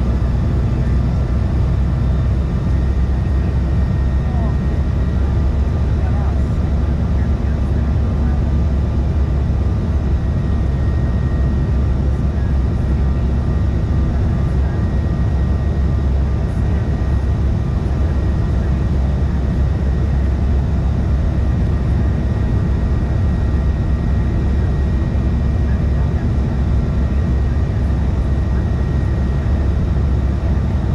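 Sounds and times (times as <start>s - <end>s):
jet cabin rumble: 0.0s - 30.9s.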